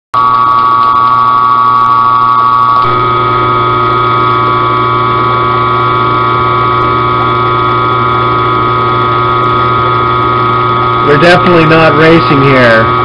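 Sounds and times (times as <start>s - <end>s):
low hum: 0.2s - 12.0s
mill-drill motor whine: 0.2s - 13.0s.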